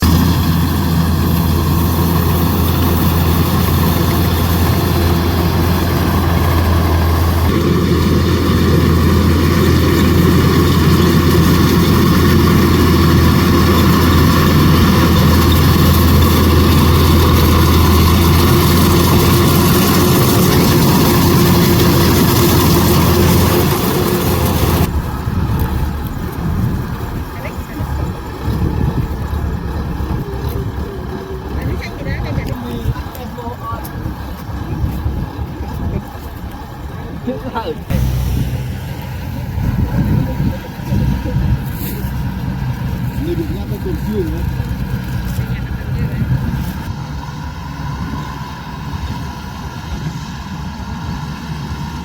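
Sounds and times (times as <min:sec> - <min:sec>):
combine harvester diesel engine: 0:00.0 - 0:52.0.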